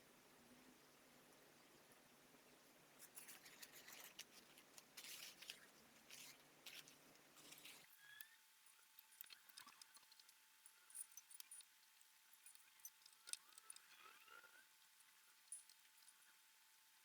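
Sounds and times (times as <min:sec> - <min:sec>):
faint scratching and clicking: 0:03.0 - 0:17.0.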